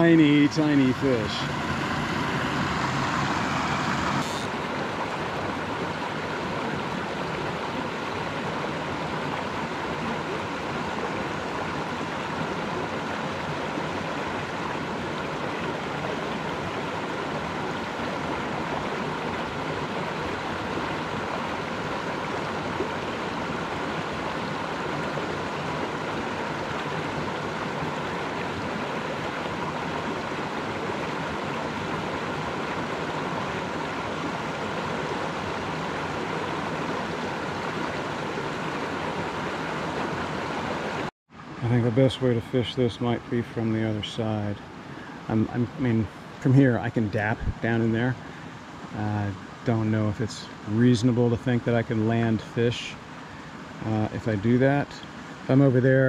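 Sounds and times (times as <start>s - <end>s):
creek flowing: 0.0s - 56.0s.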